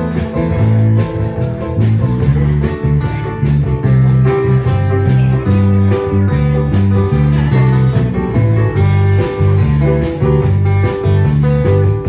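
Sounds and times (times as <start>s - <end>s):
electric bass line: 0.0s - 12.0s
keyboard: 0.0s - 12.0s
strummed acoustic guitar: 0.0s - 12.0s.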